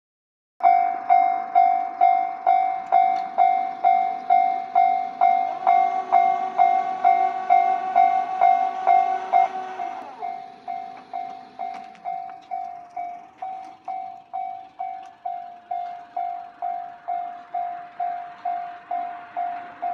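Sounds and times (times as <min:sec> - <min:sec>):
level crossing warning bell ringing: 0:00.6 - 0:19.9.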